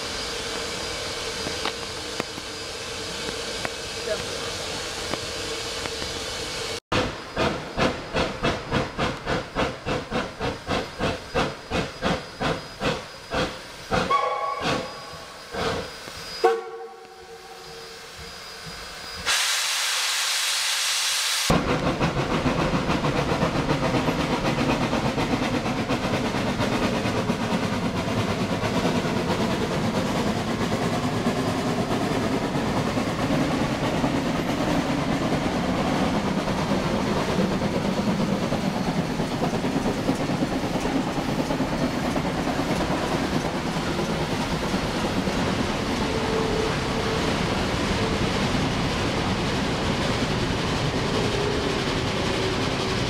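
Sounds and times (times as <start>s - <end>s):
train rumbling and clattering on rails: 0.0s - 19.4s, 21.5s - 53.0s
steam hissing: 0.0s - 53.0s
steam locomotive chuffing: 0.0s - 53.0s.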